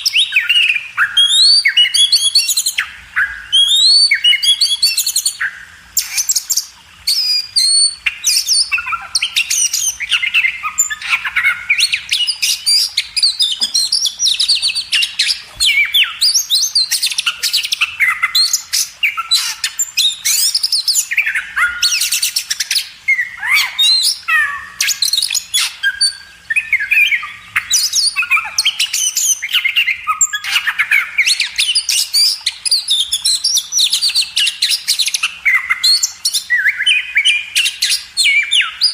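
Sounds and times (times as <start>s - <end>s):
bird singing whistles and chirps: 0.0s - 38.9s.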